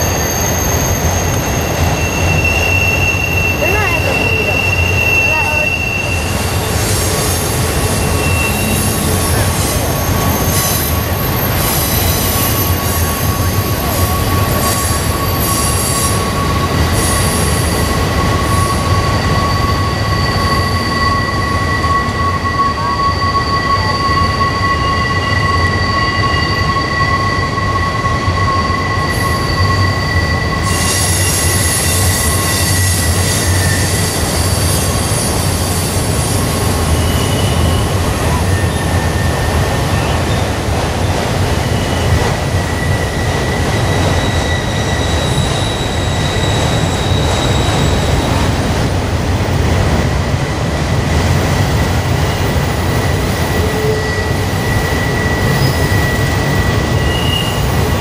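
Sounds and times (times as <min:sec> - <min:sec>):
rumble of passing train cars: 0:00.0 - 0:58.0
train wheels squealing: 0:00.0 - 0:58.0.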